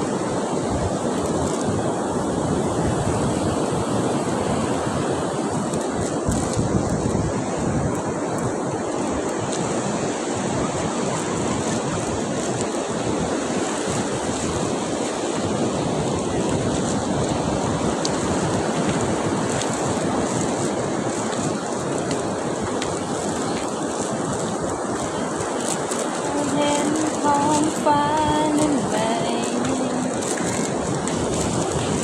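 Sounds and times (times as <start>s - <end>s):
sea surf washing onto beach: 0.0s - 32.0s.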